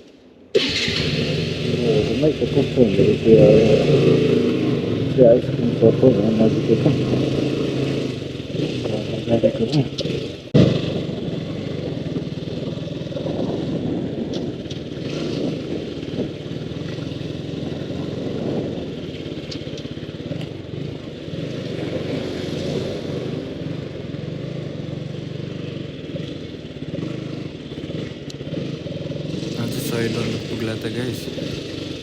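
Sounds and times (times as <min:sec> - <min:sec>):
motorcycle engine running: 0:00.6 - 0:32.0.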